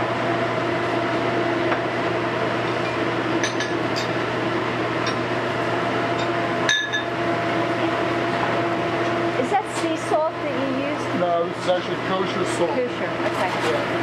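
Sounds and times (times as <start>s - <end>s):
gas burner and ventilation hum: 0.0s - 14.0s.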